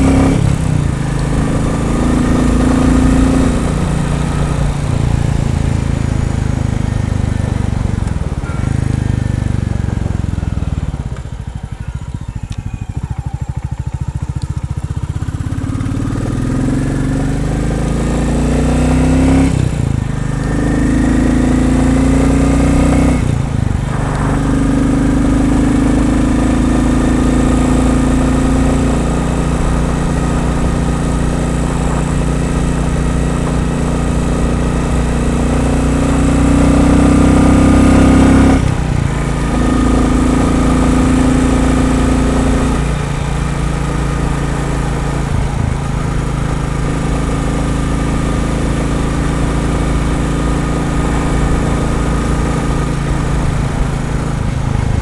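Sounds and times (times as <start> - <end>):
motorcycle engine running under load: 0.0 - 55.0.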